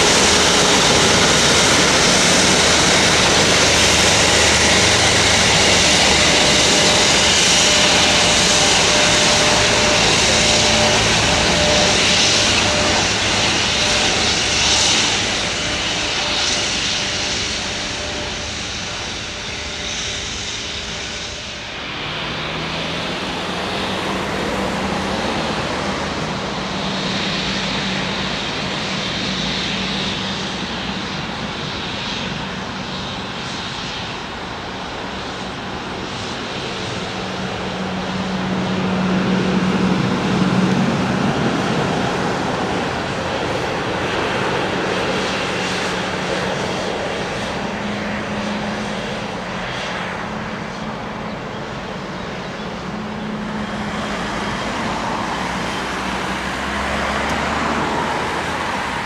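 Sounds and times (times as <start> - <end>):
jet engines whining at taxi power: 0.0 - 59.0
quieter jet engines humming: 0.0 - 59.0.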